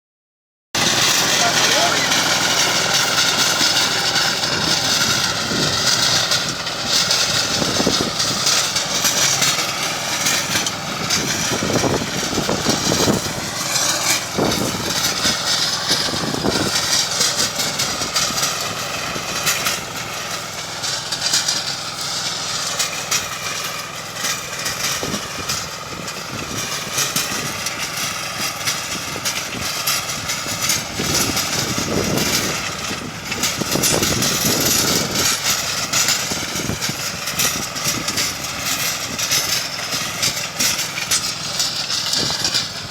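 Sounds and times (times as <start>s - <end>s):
rototiller working soil: 0.8s - 42.9s
tractor diesel engine running: 0.8s - 42.9s.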